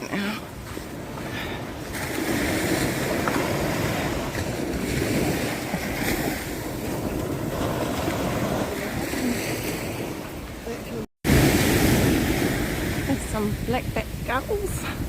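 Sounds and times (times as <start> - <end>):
ocean surf washing on sand: 0.0 - 15.0
wind buffeting microphone: 0.0 - 15.0.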